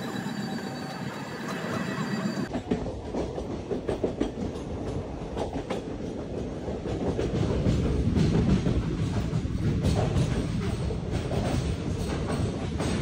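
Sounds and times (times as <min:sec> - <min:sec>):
low train rumble: 0:00.0 - 0:13.0
train wheels clattering on rails: 0:02.5 - 0:13.0.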